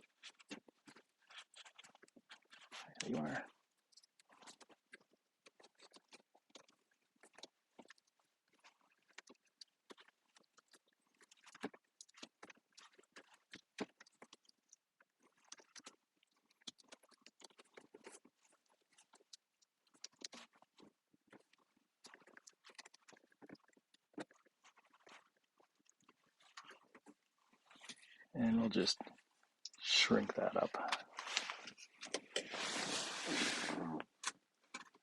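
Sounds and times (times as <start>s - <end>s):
small clicks and crackles: 0.0s - 35.0s.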